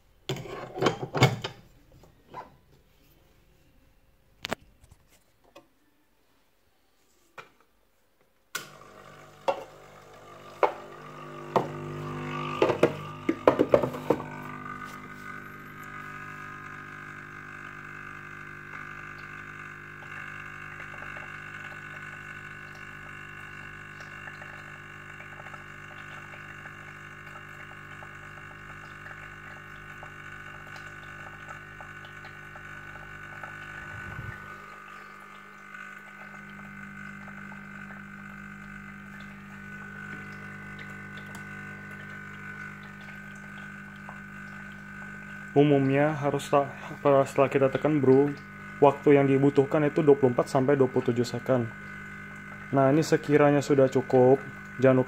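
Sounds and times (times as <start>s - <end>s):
espresso flowing into glass: 8.5s - 55.0s
espresso machine pump humming: 8.5s - 55.0s.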